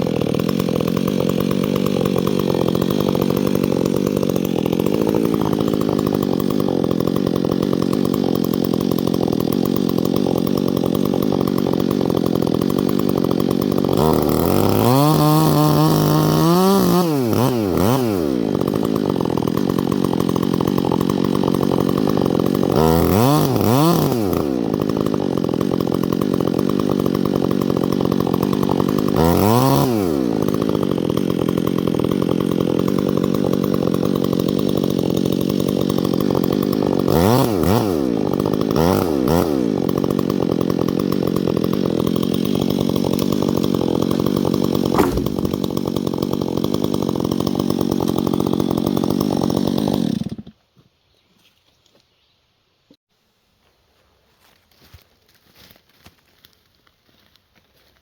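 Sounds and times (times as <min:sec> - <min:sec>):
chainsaw engine revving: 0:00.0 - 0:50.6.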